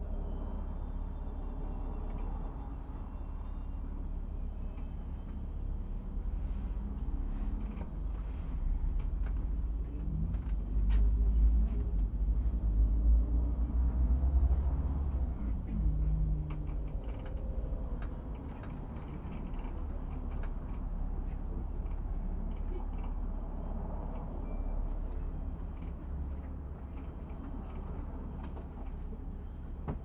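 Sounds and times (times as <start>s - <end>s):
bus engine low rumble: 0.0s - 30.0s.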